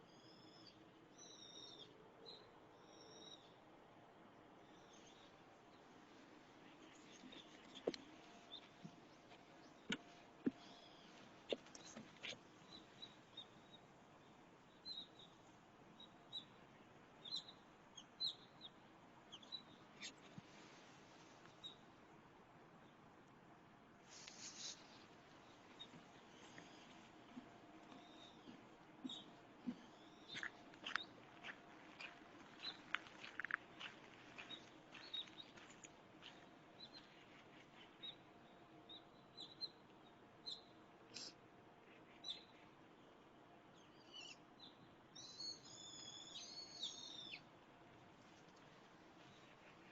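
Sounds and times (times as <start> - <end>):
small birds chirping faintly: 0.0 - 49.9.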